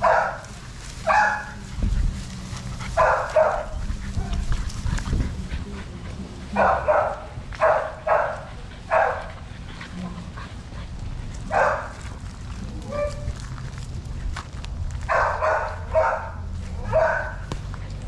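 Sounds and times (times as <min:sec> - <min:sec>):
puppies barking: 0:00.0 - 0:13.8, 0:15.0 - 0:18.0.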